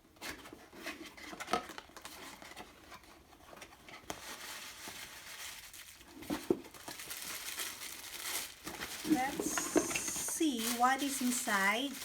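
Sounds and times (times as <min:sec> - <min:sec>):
packaging rustling and crinkling: 0:00.8 - 0:12.0.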